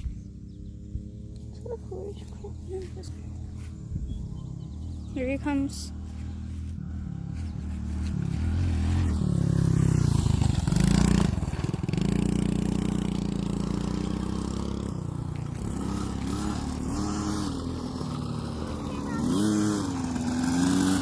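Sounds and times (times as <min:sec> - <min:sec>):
dirt bike engine passing by: 0:00.0 - 0:21.0.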